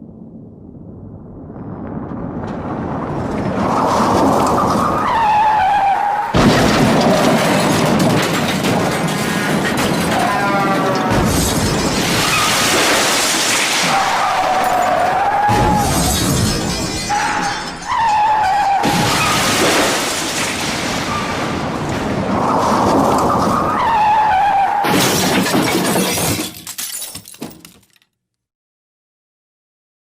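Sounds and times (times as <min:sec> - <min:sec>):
loud crashing and shattering: 0:02.4 - 0:28.0.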